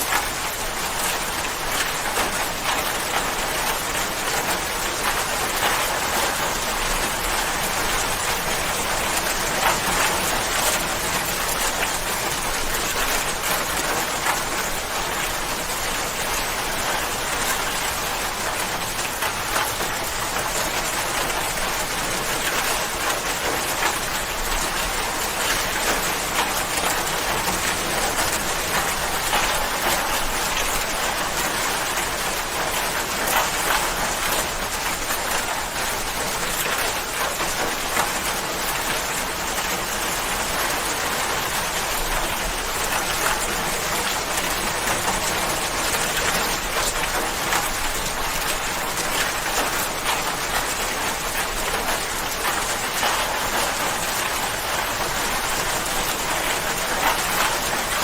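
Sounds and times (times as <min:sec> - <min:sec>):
rain drops striking a surface: 0:00.0 - 0:58.0.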